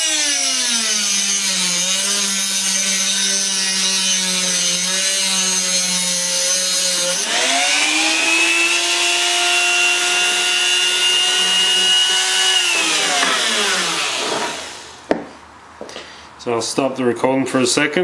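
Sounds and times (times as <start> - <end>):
rotary tool cutting metal: 0.0 - 15.0.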